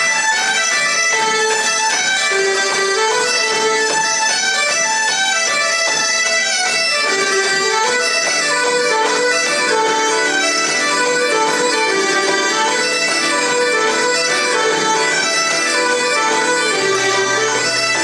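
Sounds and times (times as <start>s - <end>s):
bagpipe drone: 0.0s - 18.0s
bagpipes playing melody: 0.0s - 18.0s
fiddle: 0.0s - 18.0s
keyboard: 0.0s - 18.0s.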